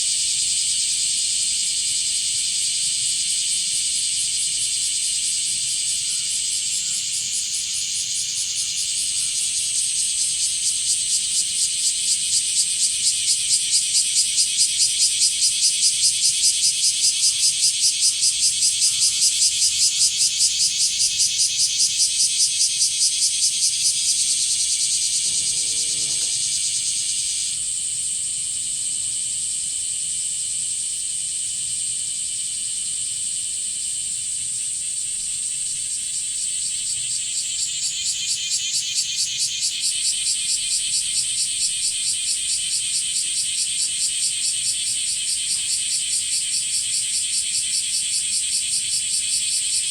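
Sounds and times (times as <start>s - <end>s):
cicadas buzzing in chorus: 0.0s - 49.9s.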